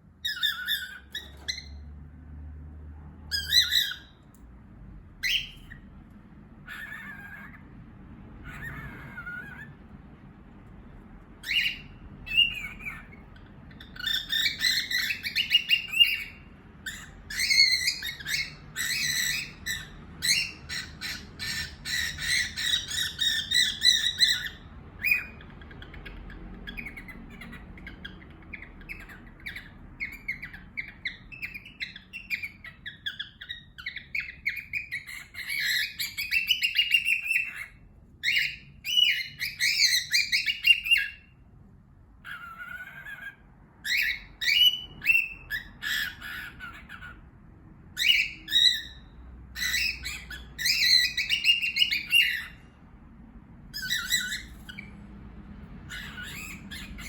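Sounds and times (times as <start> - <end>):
birds chirping and chattering: 0.0 - 57.0.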